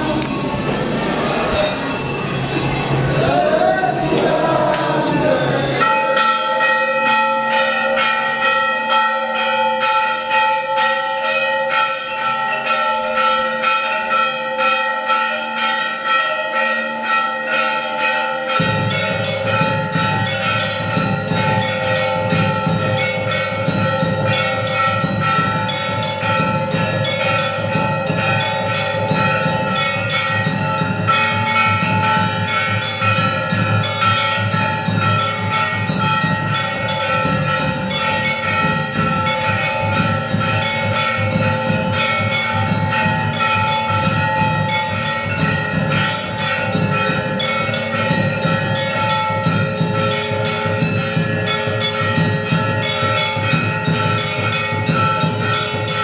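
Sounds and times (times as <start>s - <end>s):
temple bells ringing: 0.0s - 56.0s.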